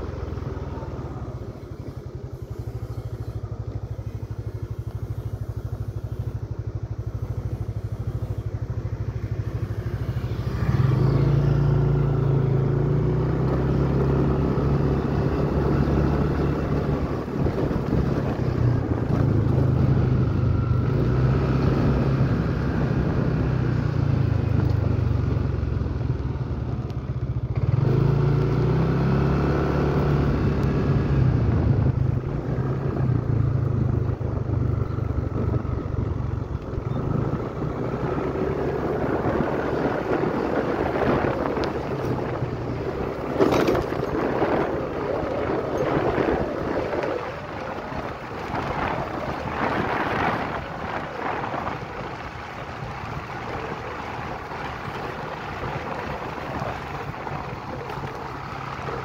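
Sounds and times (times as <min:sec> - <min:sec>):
small motorcycle engine running: 0:00.0 - 0:59.0
wind buffeting microphone: 0:00.0 - 0:59.0.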